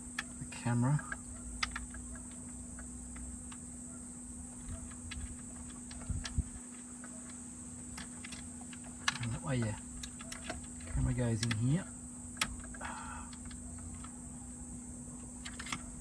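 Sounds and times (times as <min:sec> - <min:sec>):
wiring and connectors clicking: 0:00.0 - 0:03.7, 0:04.5 - 0:14.3, 0:15.1 - 0:16.0.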